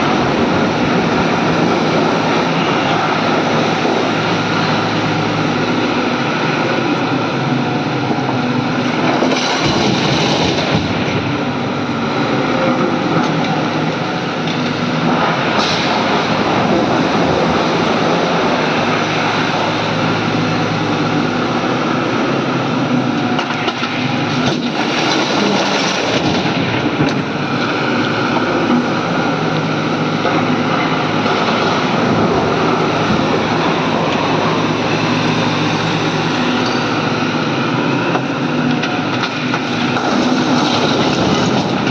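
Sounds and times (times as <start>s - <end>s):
excavator diesel engine working: 0.0s - 41.9s.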